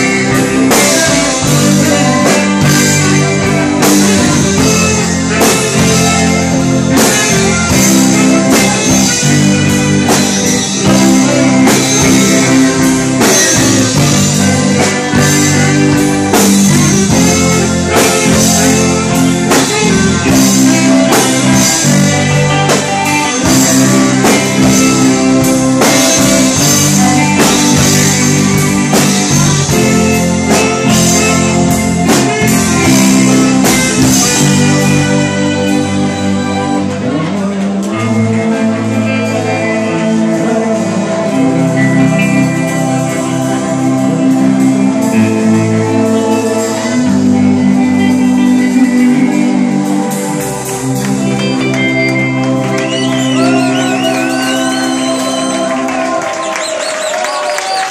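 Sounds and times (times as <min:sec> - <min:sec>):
bass: 0:00.0 - 0:57.9
drum kit: 0:00.0 - 0:57.9
electric guitars: 0:00.0 - 0:57.9
saxophone: 0:00.0 - 0:57.9.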